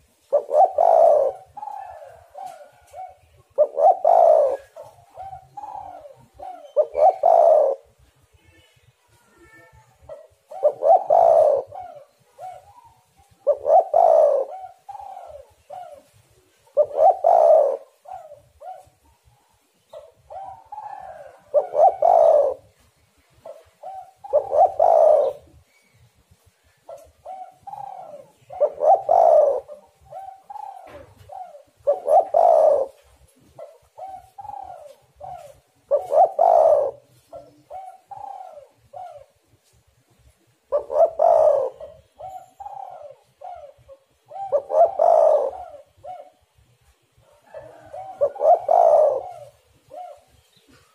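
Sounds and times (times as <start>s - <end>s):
dove cooing: 0.0s - 8.0s, 9.4s - 50.9s.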